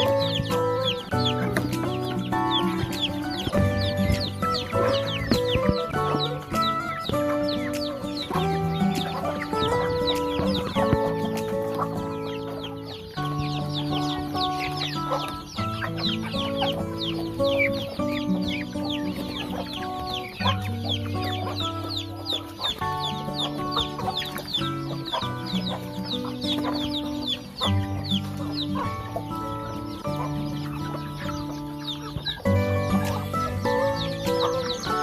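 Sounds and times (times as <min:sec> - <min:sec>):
chickens peeping: 0:00.0 - 0:35.0
music with slow held chords: 0:00.0 - 0:35.0.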